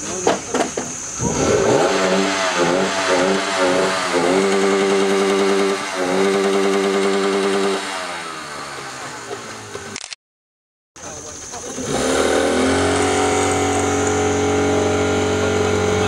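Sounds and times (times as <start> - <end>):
small engine running: 1.2 - 10.0, 11.5 - 16.0.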